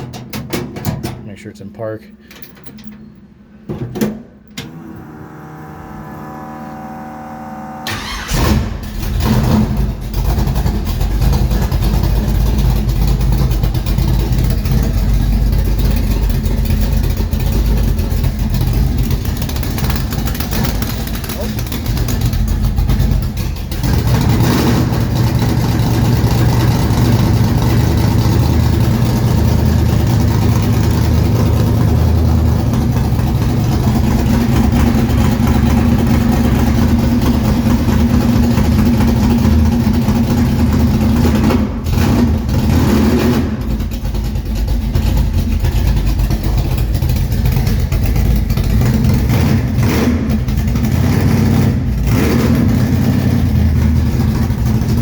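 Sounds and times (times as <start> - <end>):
car engine running: 4.9 - 55.0.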